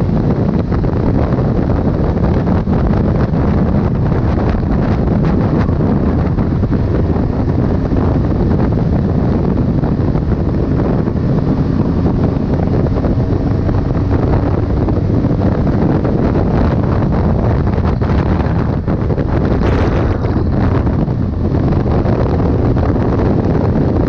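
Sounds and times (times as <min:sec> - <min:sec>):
heavy wind buffeting microphone: 0:00.0 - 0:24.0.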